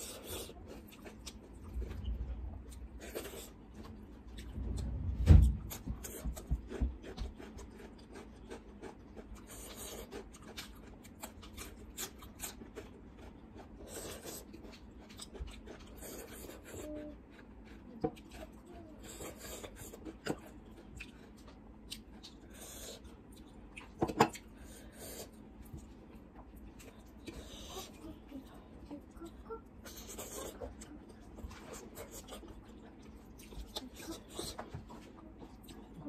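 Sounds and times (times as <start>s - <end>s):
chewing and mouth sounds: 0.0s - 36.0s.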